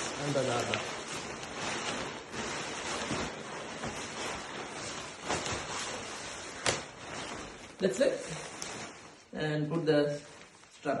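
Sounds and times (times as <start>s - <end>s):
tent fabric rustling: 0.0s - 11.0s.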